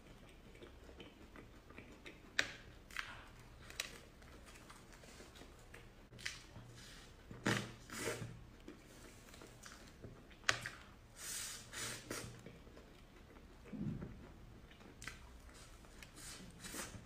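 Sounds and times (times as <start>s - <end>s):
soft crackles and squishes eating: 0.0s - 17.0s.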